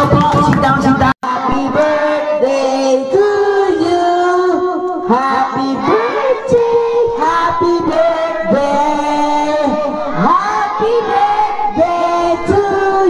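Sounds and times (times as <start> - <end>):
voices singing long notes: 1.2 - 13.0.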